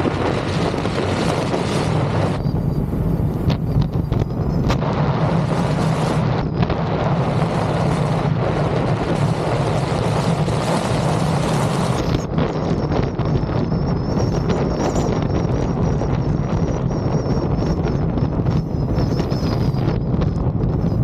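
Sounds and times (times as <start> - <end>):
low road rumble: 0.0 - 21.0
wind buffeting microphone: 0.0 - 21.0.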